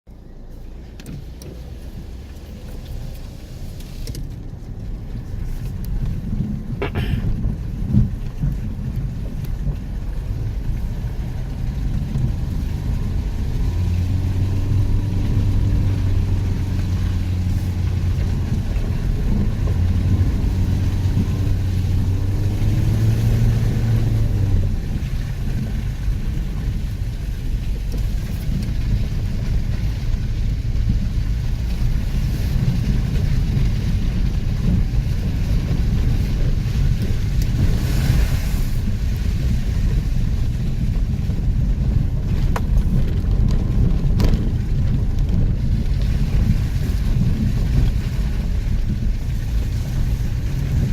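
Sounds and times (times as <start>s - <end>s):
vehicle engine rumbling: 0.0s - 50.9s
wind noise: 2.0s - 50.9s.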